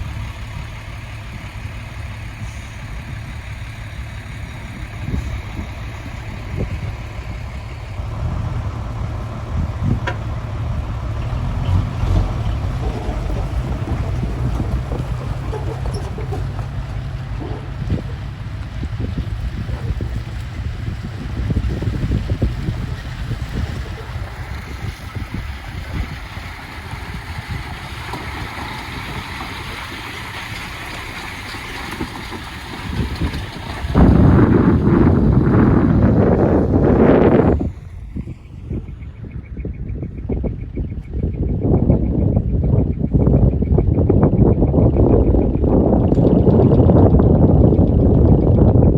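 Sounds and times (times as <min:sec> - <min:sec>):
truck engine rumbling: 0:00.0 - 0:48.9
wind noise on microphone: 0:00.0 - 0:48.9.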